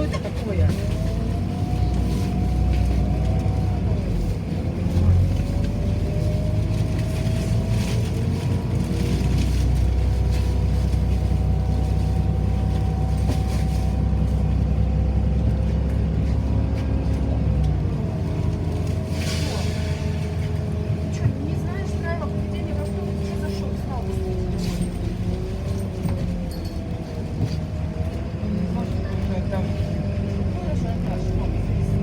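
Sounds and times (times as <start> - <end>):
bus drive and road rumble: 0.0 - 32.0.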